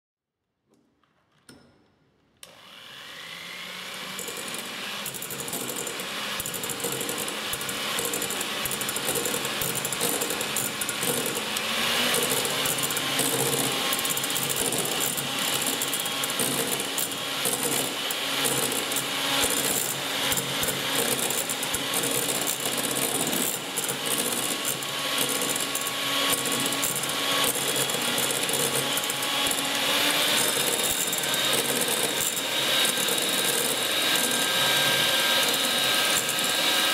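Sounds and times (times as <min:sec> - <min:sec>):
hand mixer motor running: 0:02.4 - 0:36.9
beaters clicking in glass bowl: 0:04.2 - 0:34.5.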